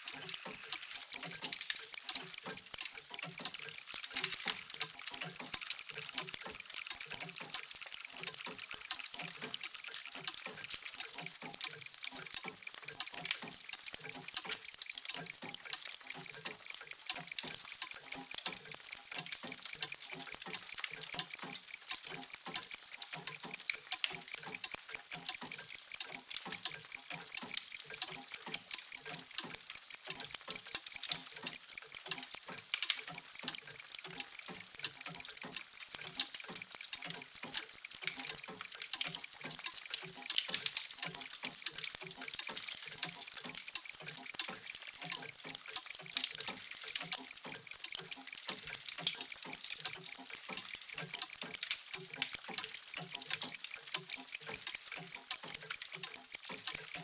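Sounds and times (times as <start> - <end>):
mechanical clocks ticking: 0.0 - 57.0.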